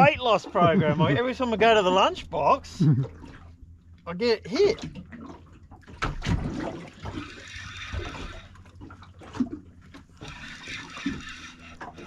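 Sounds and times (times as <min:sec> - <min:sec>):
steady low hum: 0:00.0 - 0:12.0
water sloshing and rushing: 0:00.0 - 0:12.0.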